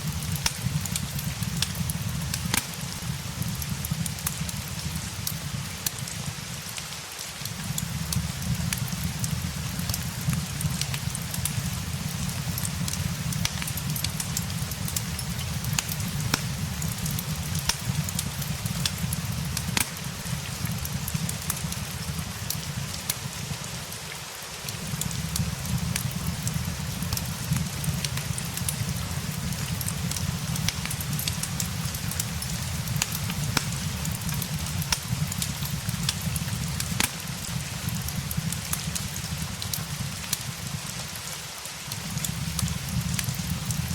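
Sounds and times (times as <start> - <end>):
fireplace crackling: 0.0 - 43.9
steady rain: 0.0 - 43.9.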